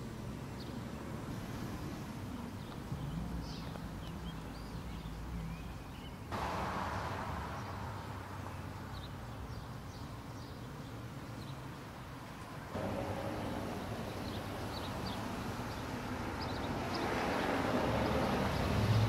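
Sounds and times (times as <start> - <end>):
birds chirping: 0.0 - 19.0
road traffic hum: 0.0 - 19.0
rush of traffic: 0.0 - 19.0.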